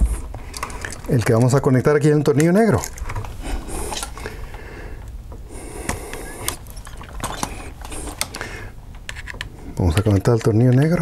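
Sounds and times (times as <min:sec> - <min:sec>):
wires and switch handling clicks: 0:00.2 - 0:11.0.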